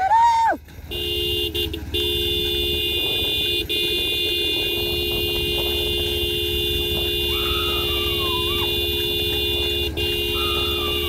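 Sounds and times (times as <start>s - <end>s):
vehicle horn blaring: 0.8s - 11.0s.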